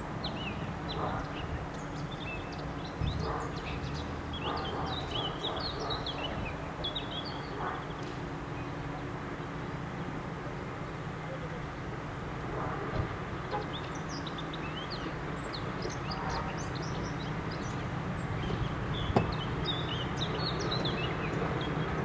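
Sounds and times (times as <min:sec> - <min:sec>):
small birds chirping: 0:00.0 - 0:09.9, 0:13.2 - 0:22.0
diesel locomotive engine drone: 0:00.0 - 0:22.0.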